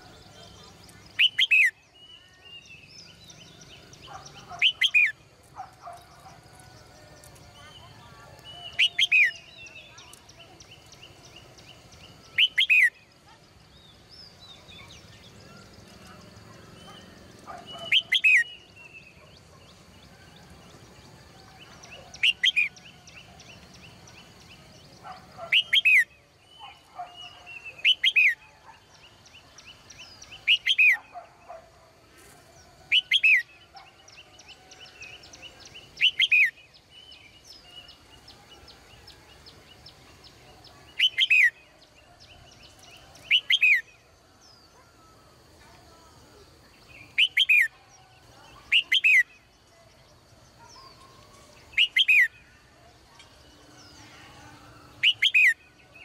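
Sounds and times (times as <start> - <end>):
soft bird chirps: 0.0 - 56.0.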